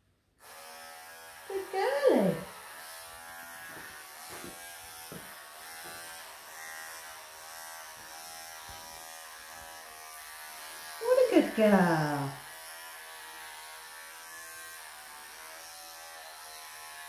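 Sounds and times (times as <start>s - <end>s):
electric clippers buzzing: 0.4s - 17.0s.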